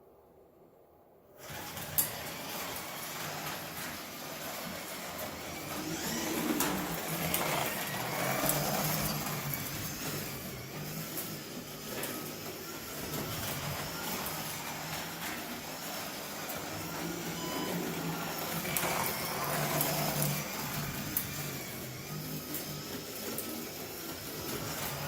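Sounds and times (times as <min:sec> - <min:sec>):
slot car motors whining: 0:01.4 - 0:25.0.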